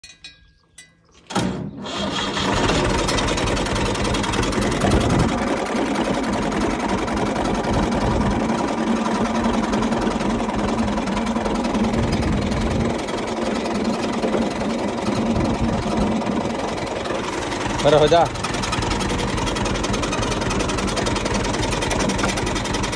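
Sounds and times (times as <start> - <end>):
tractor diesel engine running: 1.3 - 22.9.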